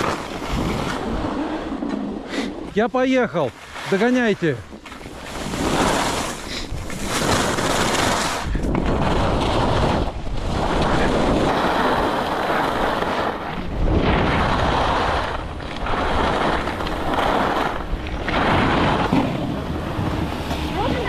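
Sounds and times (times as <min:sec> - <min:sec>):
wind rushing over microphone: 0:00.0 - 0:02.9, 0:04.3 - 0:21.0
skis scraping over hard snow: 0:00.0 - 0:21.0.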